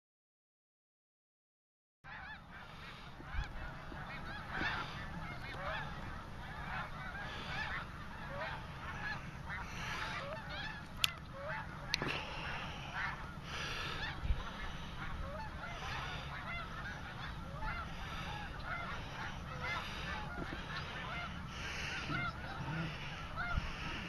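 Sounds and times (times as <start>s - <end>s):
geese honking: 2.1s - 24.0s.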